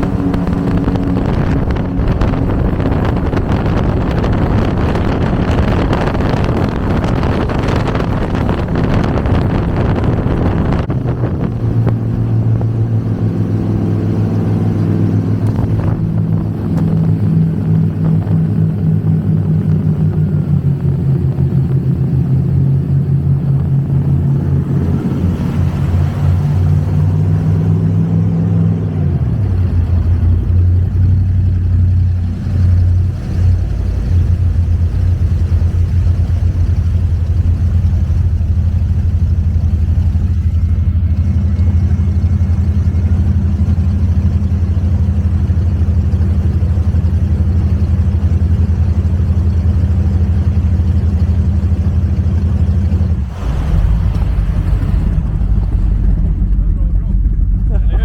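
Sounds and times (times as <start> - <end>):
power boat engines running: 0.0 - 58.0.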